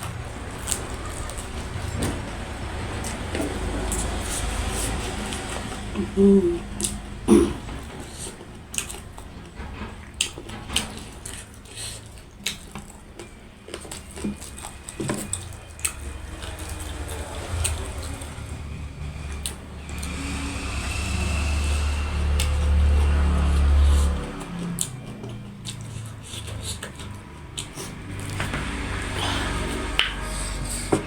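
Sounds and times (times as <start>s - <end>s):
chewing with clicks and smacks: 0.0s - 31.0s.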